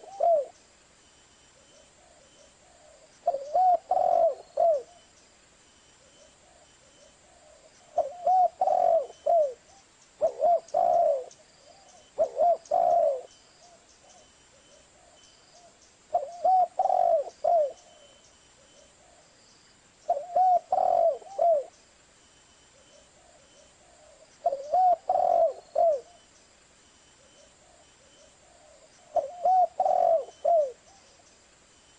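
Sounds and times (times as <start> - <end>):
dove cooing: 0.0 - 0.6, 1.6 - 5.1, 6.0 - 19.2, 20.1 - 21.8, 22.7 - 26.3, 27.2 - 31.2.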